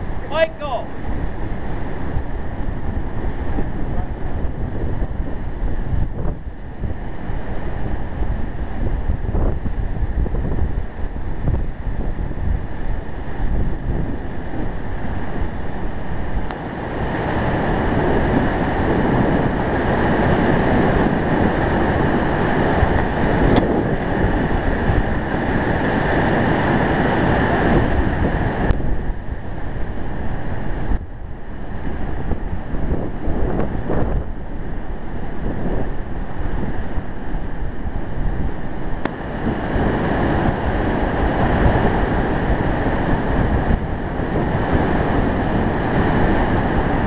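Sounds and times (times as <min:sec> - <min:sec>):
surf breaking over rocks: 0:00.0 - 0:47.0
wind buffeting microphone: 0:00.0 - 0:47.0.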